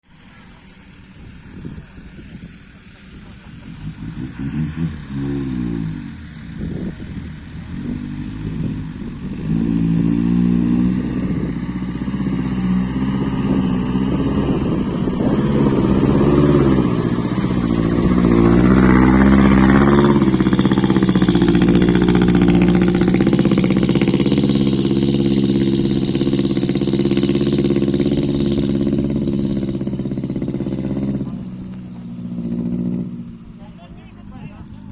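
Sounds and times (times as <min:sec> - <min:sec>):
truck diesel engine revving: 0:00.0 - 0:34.9.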